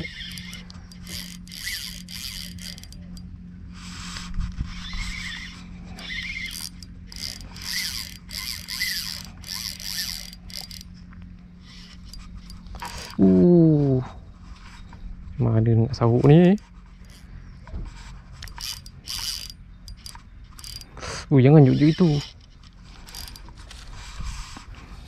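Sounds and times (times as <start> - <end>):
fishing reel ratcheting and whirring: 0.0 - 13.2, 16.2 - 24.7
steady low hum: 0.0 - 25.0.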